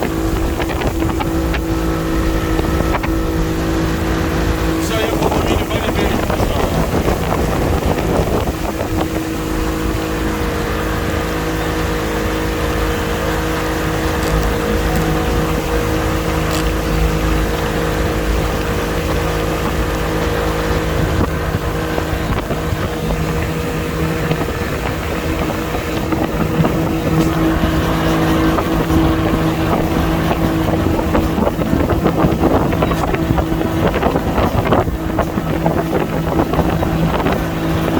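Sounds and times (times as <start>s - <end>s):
motorboat engine humming: 0.0s - 37.9s
wind noise on microphone: 0.0s - 37.9s.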